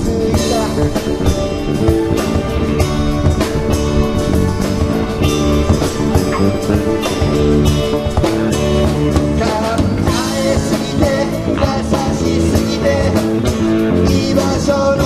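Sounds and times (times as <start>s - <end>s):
bass guitar: 0.0s - 15.0s
drum kit beat: 0.0s - 15.0s
electric guitars: 0.0s - 15.0s.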